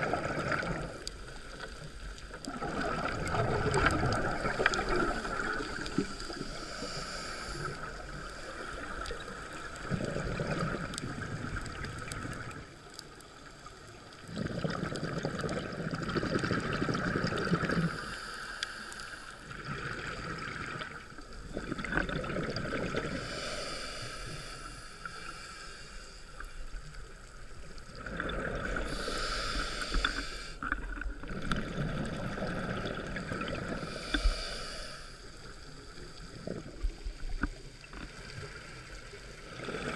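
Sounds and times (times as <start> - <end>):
exhaled bubbles underwater: 0.0 - 18.2, 19.5 - 23.5, 27.2 - 29.3, 30.6 - 34.2, 35.4 - 39.9.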